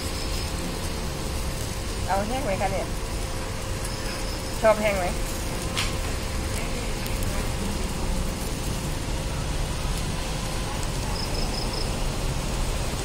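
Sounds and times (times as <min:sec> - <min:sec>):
grill hissing and rumbling: 0:00.0 - 0:13.0.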